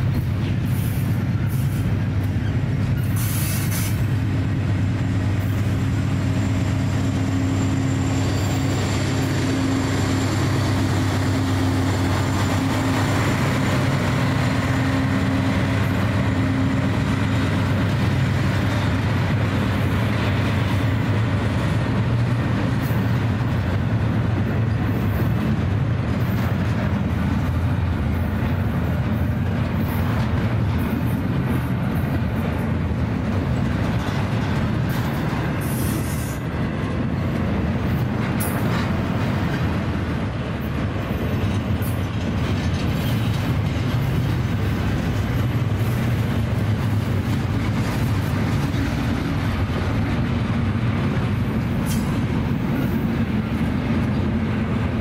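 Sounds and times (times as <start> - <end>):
diesel locomotive engine hum: 0.0 - 55.0
freight train rumbling past: 0.0 - 55.0.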